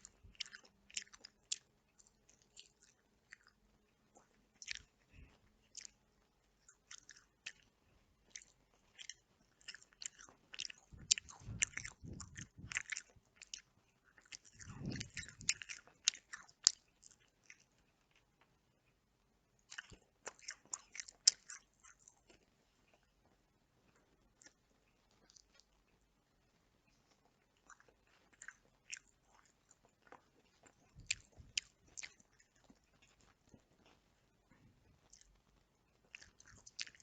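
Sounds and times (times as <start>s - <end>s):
close-miked chewing: 0.0s - 37.0s.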